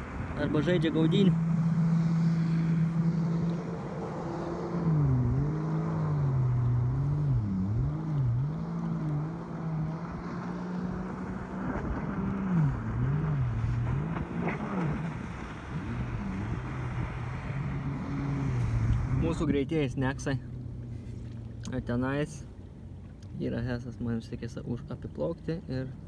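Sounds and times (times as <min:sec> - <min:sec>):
choppy water: 0:00.0 - 0:26.0
distant motorboat engine: 0:00.0 - 0:26.0.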